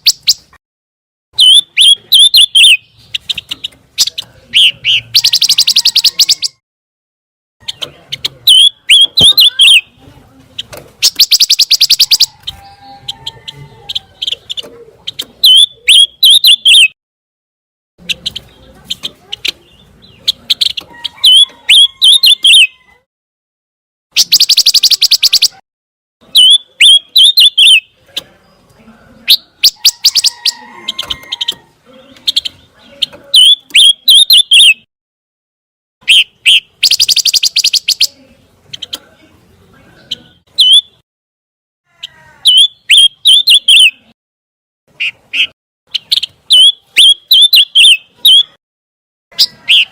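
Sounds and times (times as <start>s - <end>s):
bird singing chirps and trills: 1.4s - 6.6s, 7.6s - 17.0s, 18.0s - 22.9s, 24.2s - 25.6s, 26.2s - 34.9s, 36.0s - 41.0s, 42.4s - 44.2s, 45.0s - 48.6s, 49.3s - 49.9s.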